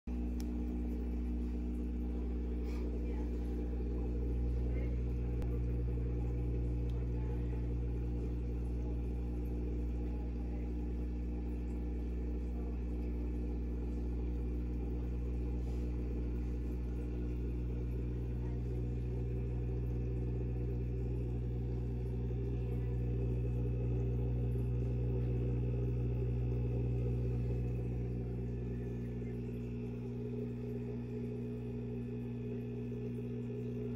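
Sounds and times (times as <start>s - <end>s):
aquarium filter pump hum: 0.1s - 33.9s.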